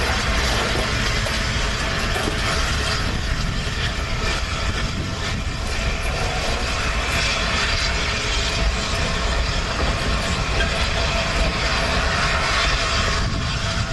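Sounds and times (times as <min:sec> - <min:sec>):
train wheels rumbling on rails: 0:00.0 - 0:13.9.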